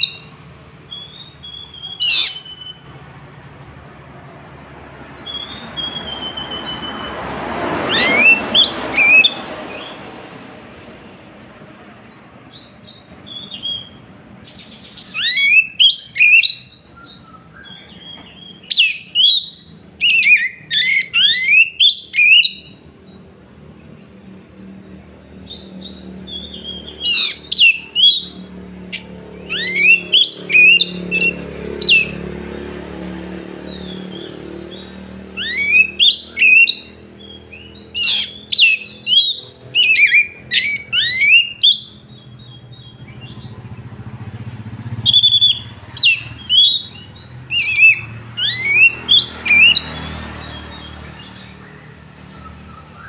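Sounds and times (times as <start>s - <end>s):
bird singing whistled notes: 0.0s - 10.0s, 12.5s - 32.3s, 33.5s - 53.0s.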